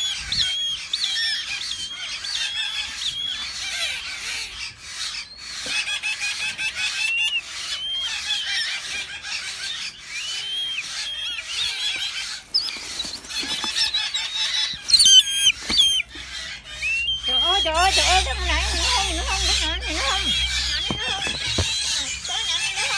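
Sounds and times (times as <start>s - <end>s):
chicks cheeping: 0.0s - 22.9s.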